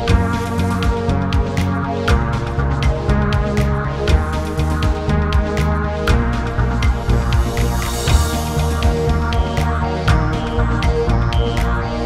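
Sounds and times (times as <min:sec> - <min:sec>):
electronic music with pulsing bass: 0:00.0 - 0:12.0.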